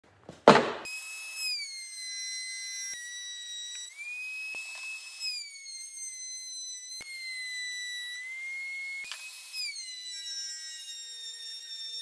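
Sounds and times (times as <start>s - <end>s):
router whining cutting wood: 0.6s - 12.0s.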